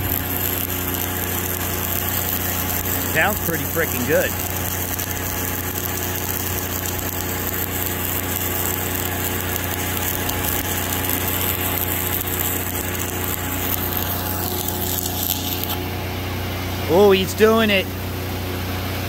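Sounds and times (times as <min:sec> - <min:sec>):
welding arc crackling: 0:00.0 - 0:16.1
welder engine humming: 0:00.0 - 0:19.0.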